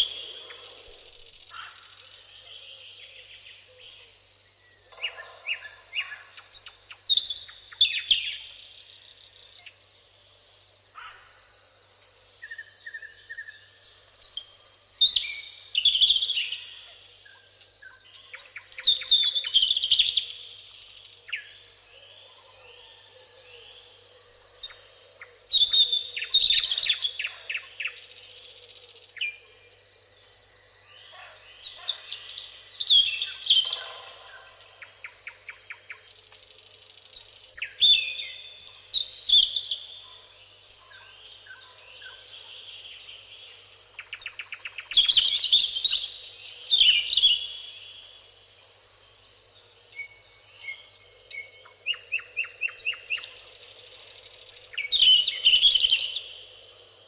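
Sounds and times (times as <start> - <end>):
high-pitched insect trill: 0.0 - 57.0
songbirds singing: 0.0 - 57.0.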